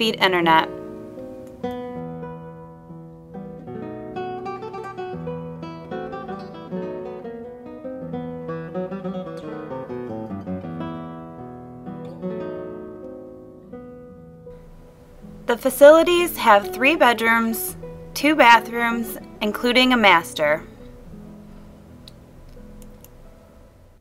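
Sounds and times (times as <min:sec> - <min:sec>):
acoustic guitar plucking and strumming: 0:00.0 - 0:23.9.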